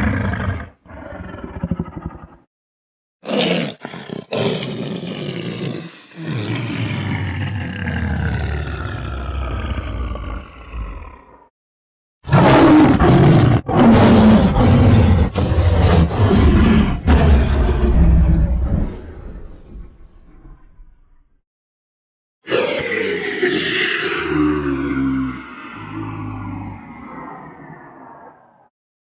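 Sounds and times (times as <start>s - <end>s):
monster roar: 0.0s - 2.5s, 3.2s - 11.5s, 12.3s - 21.0s, 22.5s - 28.7s.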